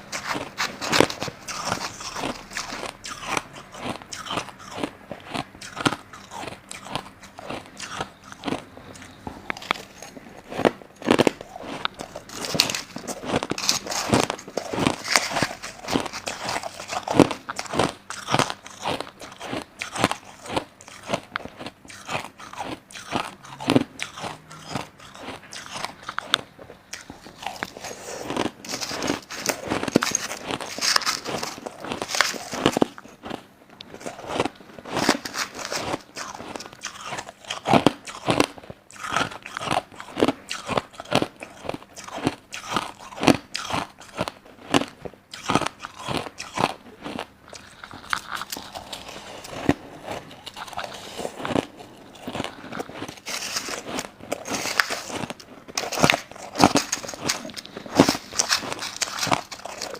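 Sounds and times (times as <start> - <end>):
person chewing crushed ice: 0.0 - 59.9.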